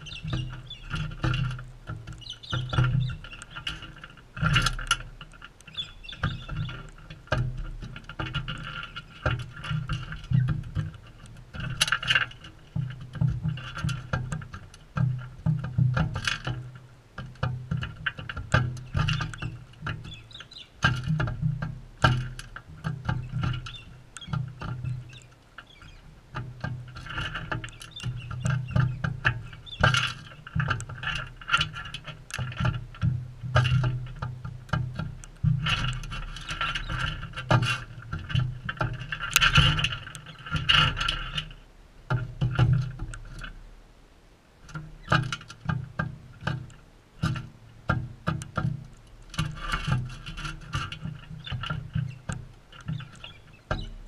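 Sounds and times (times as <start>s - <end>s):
beak clicks and taps: 0.0s - 43.5s, 44.7s - 54.0s.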